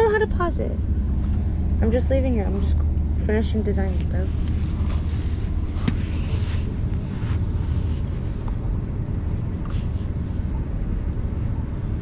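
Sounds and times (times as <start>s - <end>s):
road and engine rumble in van: 0.0s - 12.0s.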